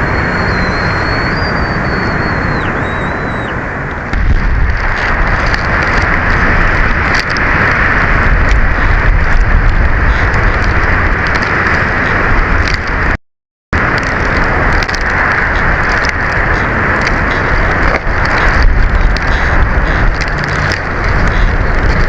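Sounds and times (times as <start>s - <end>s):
storm wind buffeting microphone: 0.0s - 13.2s, 13.8s - 22.0s.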